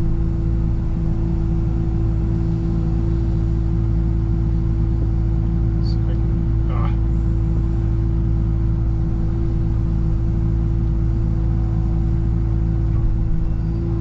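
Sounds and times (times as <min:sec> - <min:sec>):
constant engine whine: 0:00.0 - 0:14.0
excavator engine low hum: 0:00.0 - 0:14.0.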